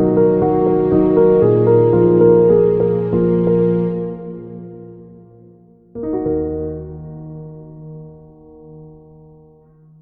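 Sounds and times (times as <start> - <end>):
soft keyboard chords: 0.0 - 10.0.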